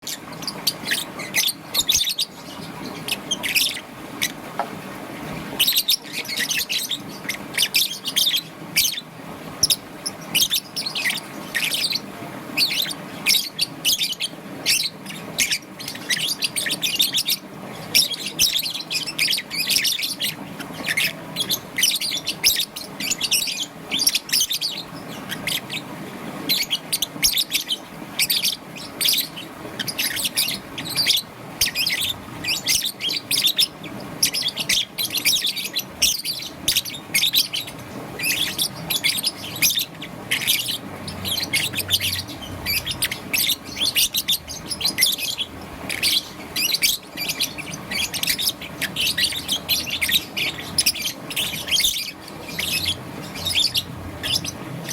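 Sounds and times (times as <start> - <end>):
lovebird chirping: 0.0 - 4.6, 5.5 - 54.9.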